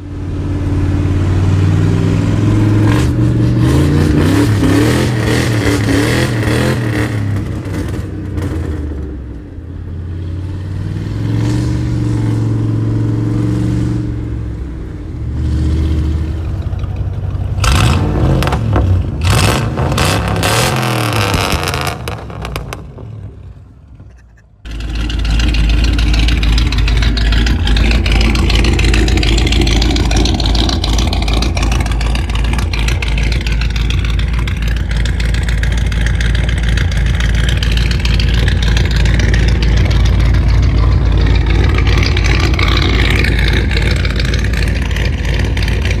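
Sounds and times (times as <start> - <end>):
car engine deep rumble: 0.0 - 46.0.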